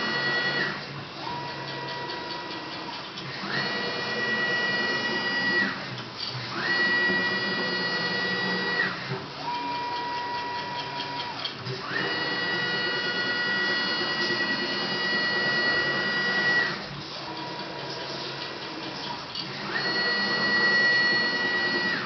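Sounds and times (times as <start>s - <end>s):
milling machine motors whining: 0.0s - 22.0s.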